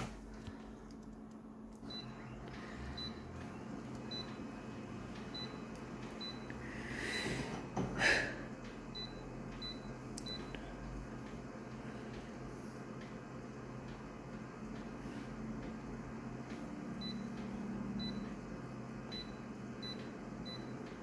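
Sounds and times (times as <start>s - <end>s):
photocopier low hum: 0.0s - 21.0s.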